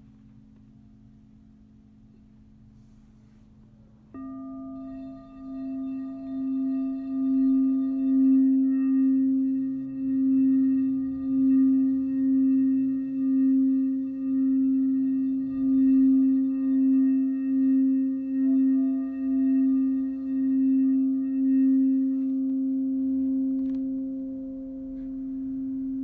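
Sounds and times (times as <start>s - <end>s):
singing bowl tone: 4.0s - 26.0s.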